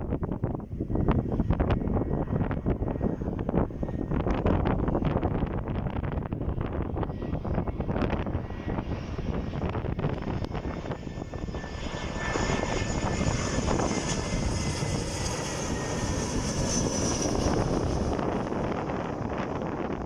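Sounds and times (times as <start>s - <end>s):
airliner passing overhead: 0.0s - 20.0s.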